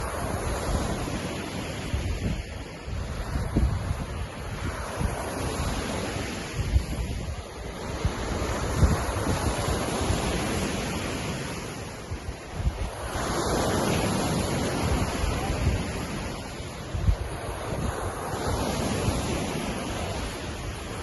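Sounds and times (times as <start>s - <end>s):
lake waves washing: 0.0s - 21.0s
wind buffeting microphone: 0.0s - 21.0s.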